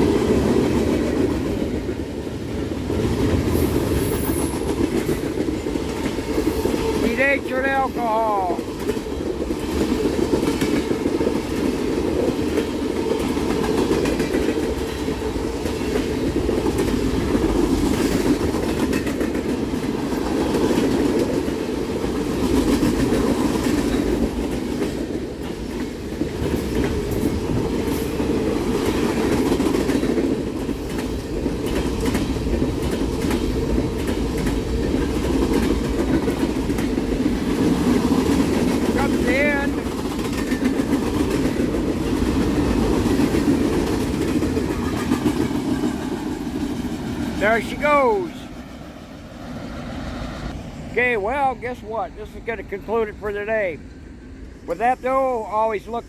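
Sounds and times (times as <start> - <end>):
wheels clickety-clack over rails: 0.0 - 48.8
freight train rumble: 0.0 - 56.0.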